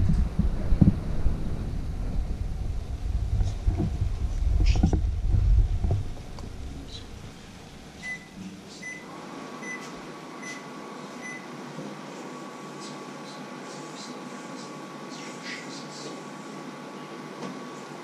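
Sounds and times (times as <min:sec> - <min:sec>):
kitchen appliance humming and whining: 0:00.6 - 0:15.1.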